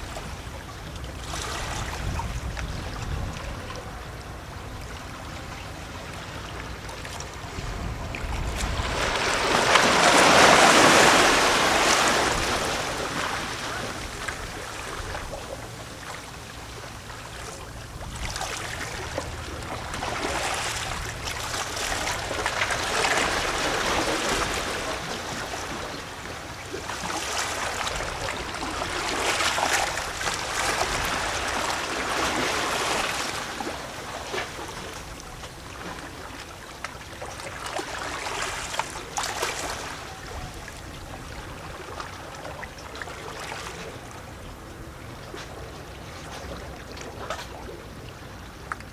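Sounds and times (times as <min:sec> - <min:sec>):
waves lapping against rocks: 0:00.0 - 0:48.9.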